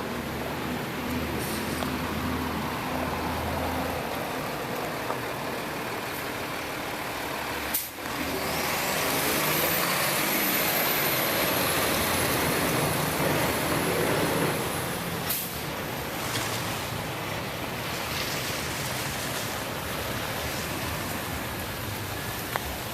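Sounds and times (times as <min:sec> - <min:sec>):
road noise: 0:00.0 - 0:22.9
truck engine running: 0:00.0 - 0:22.9.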